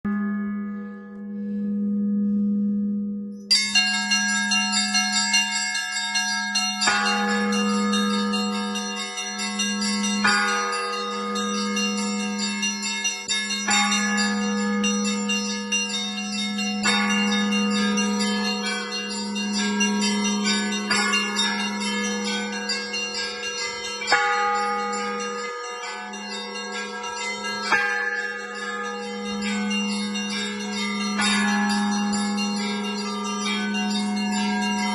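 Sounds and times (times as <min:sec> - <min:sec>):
deep bell strokes: 0:00.1 - 0:05.4, 0:06.5 - 0:34.9
small bells ringing rapidly: 0:03.5 - 0:34.9.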